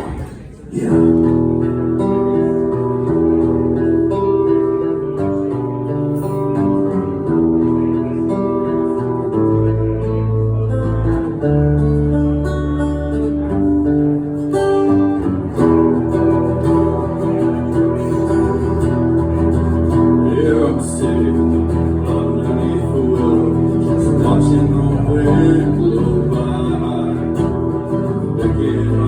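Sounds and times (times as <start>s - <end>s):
acoustic guitar strumming: 0.0s - 29.0s
low bass notes: 0.9s - 29.0s.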